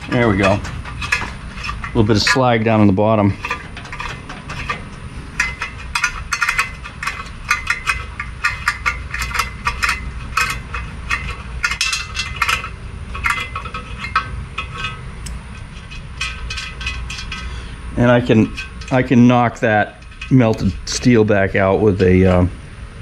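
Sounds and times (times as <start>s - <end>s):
steel pick scraping metal: 0.0s - 22.5s.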